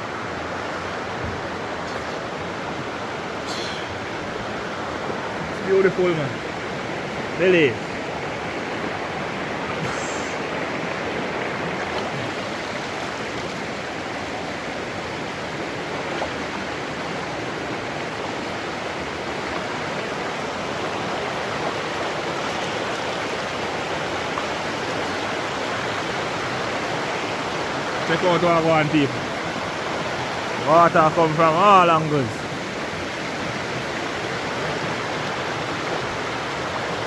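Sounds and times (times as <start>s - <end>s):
river water rushing over rocks: 0.0s - 37.0s.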